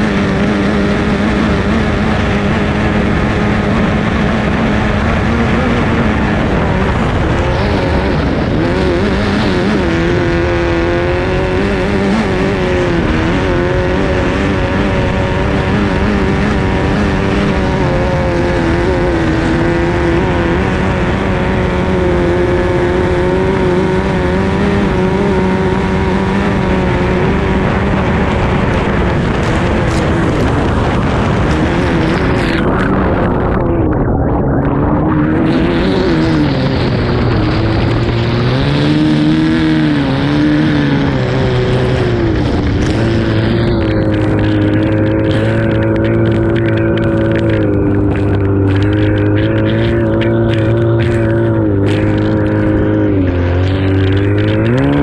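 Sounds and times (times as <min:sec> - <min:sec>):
racing boat engine full throttle: 0:00.0 - 0:55.0
rush of wind and water: 0:00.0 - 0:55.0.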